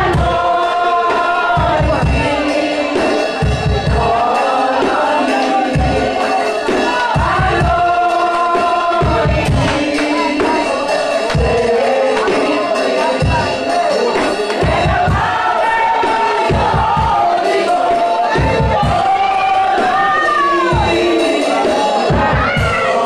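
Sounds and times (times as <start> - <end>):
choir singing gospel music: 0.0 - 23.0
low bass beats: 0.0 - 23.0.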